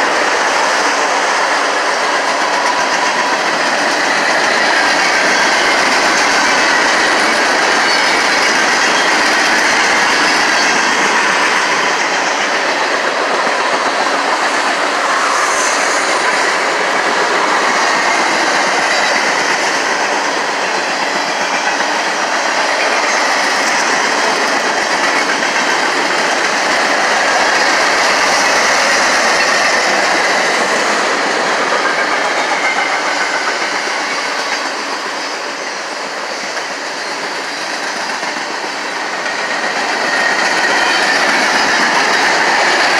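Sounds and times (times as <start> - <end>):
passenger train rail noise: 0.0 - 42.9.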